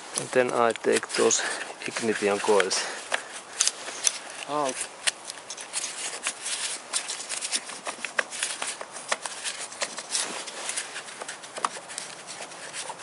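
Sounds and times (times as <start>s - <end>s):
glove rustling: 0.0s - 13.0s
plastic clicks and scrapes: 0.2s - 13.0s.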